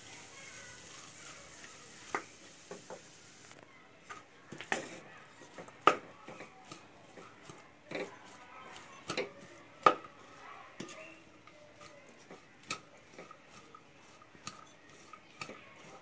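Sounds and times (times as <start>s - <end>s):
utensil scraping against wok: 0.0s - 3.4s, 4.1s - 16.0s.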